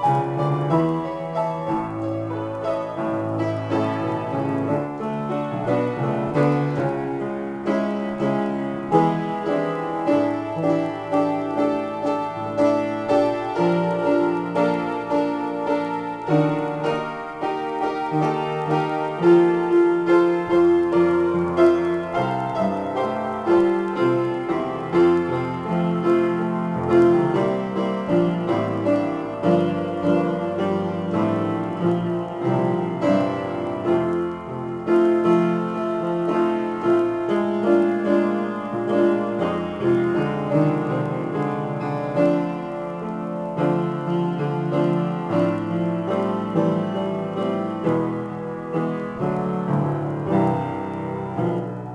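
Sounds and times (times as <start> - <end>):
solo piano improvisation: 0.0 - 51.9.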